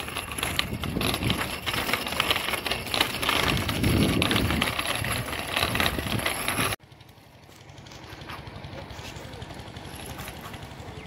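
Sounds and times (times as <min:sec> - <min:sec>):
bicycle rattling over brick paving: 0:00.0 - 0:11.0.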